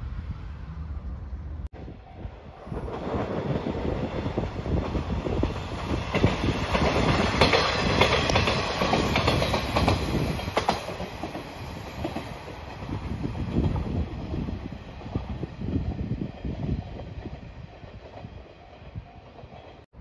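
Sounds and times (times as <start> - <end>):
diesel railcar passing: 0.0 - 20.0.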